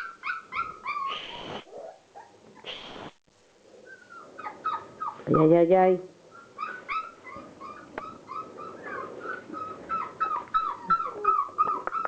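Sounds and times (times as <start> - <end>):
puppies whimpering and yipping: 0.0 - 2.8, 3.8 - 5.6, 6.3 - 12.0.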